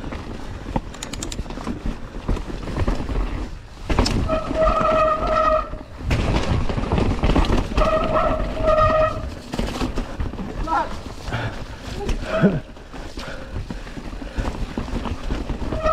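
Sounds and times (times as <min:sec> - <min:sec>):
bike rattle and tyre noise: 0:00.0 - 0:15.9.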